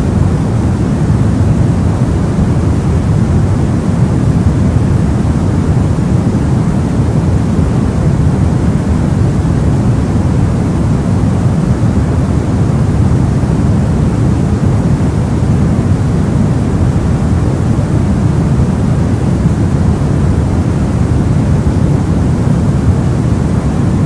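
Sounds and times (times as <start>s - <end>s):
deep white noise hiss: 0.0s - 24.0s.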